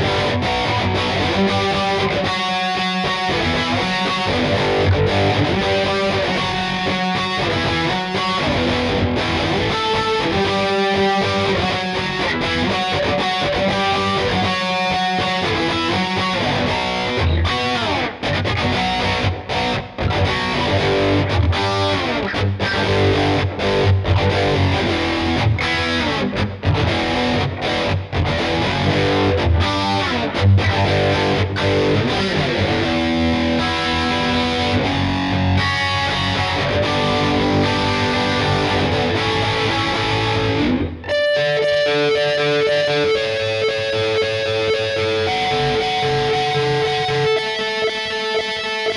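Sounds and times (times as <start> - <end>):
distorted electric guitar: 0.0 - 48.9.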